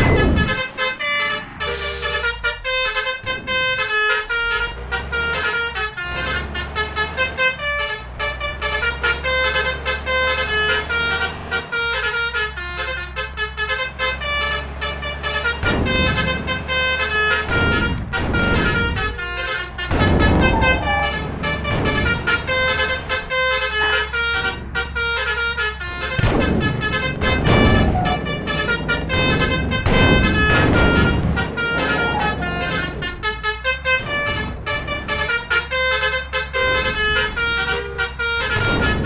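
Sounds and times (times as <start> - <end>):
low engine rumble: 0.0 - 39.0
multi-trumpet air horn melody: 0.0 - 39.0.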